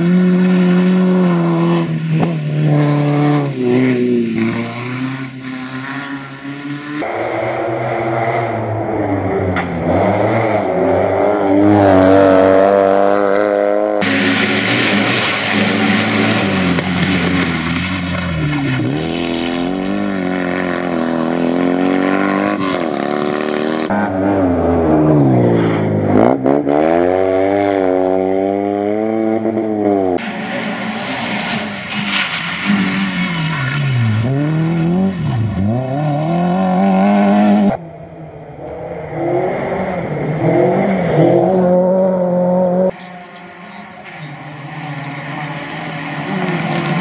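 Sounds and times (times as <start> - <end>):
rally car engines at full throttle: 0.0 - 47.0.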